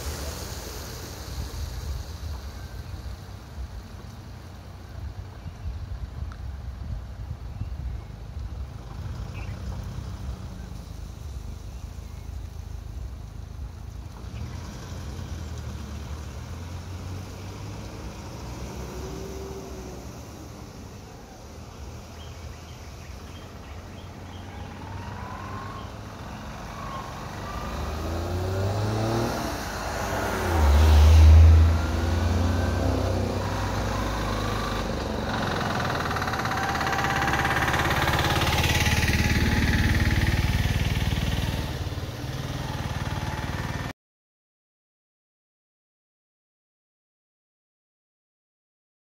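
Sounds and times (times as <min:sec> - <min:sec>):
vehicle engines revving: 0:00.0 - 0:06.4, 0:07.1 - 0:43.9.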